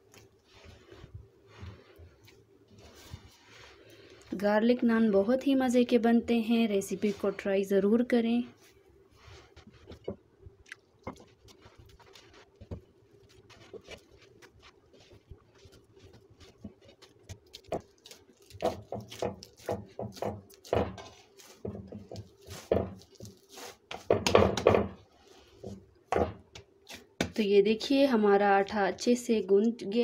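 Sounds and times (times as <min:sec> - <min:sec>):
hands kneading dough: 0:00.0 - 0:27.6.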